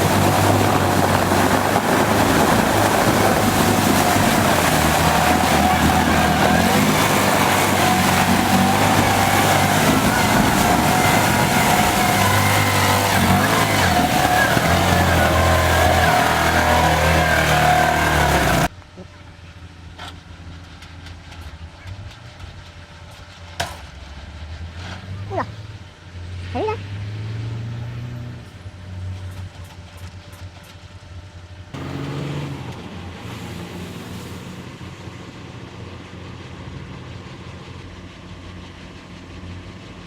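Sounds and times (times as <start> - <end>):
heavy machine engine running: 0.0 - 26.1, 28.6 - 40.0.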